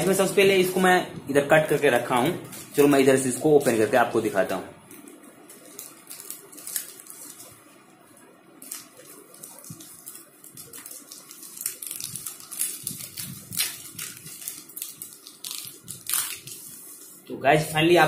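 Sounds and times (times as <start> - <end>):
plastic envelope rustling and crinkling: 0.0 - 18.0.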